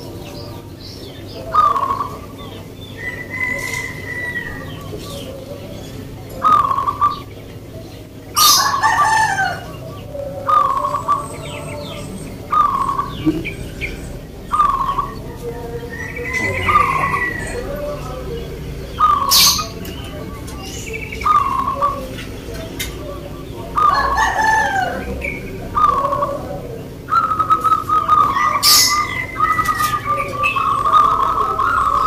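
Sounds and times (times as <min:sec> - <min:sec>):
doves cooing: 0:00.0 - 0:32.0.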